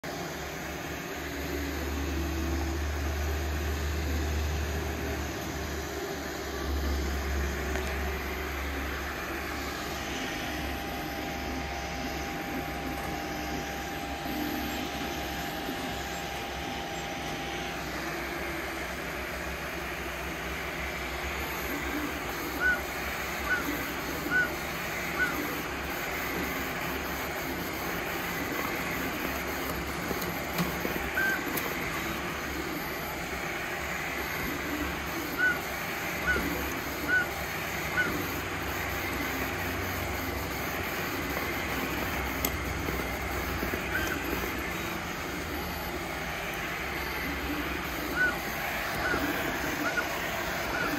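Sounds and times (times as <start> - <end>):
printer fans and stepper motors whirring: 0.0 - 50.9.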